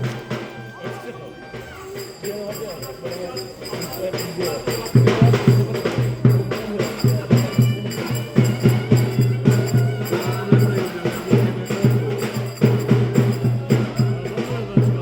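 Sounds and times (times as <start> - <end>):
drum beat: 0.0 - 15.0
folk dance music: 0.0 - 15.0
jingling tambourine-like rhythm: 0.0 - 15.0.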